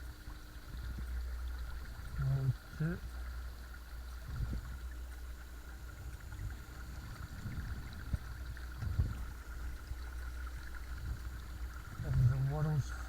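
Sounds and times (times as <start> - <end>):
water rushing along a hull: 0.0 - 13.0.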